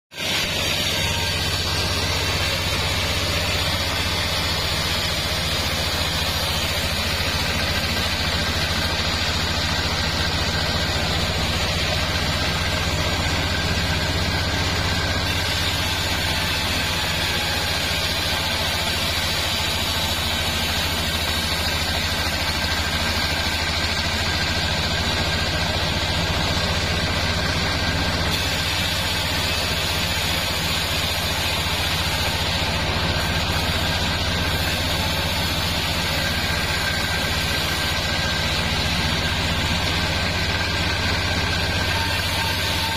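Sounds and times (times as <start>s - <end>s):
bandsaw mill sawing log: 0.1s - 42.9s.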